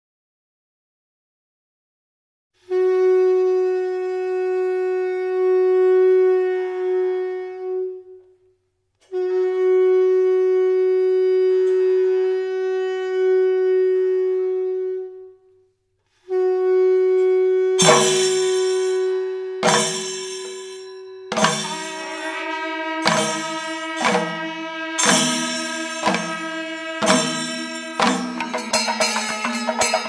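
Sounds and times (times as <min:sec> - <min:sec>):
brass horn long held notes: 0:02.7 - 0:08.4, 0:09.1 - 0:15.6, 0:16.3 - 0:30.0.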